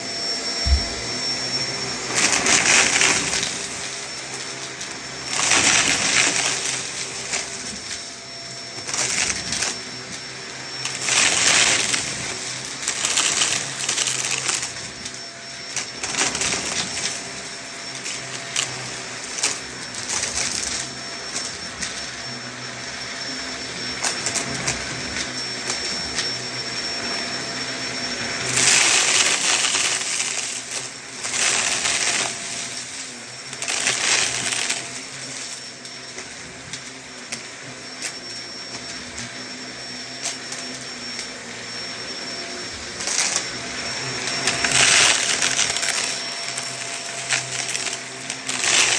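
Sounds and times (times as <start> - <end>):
vacuum cleaner whining: 0.0 - 48.9.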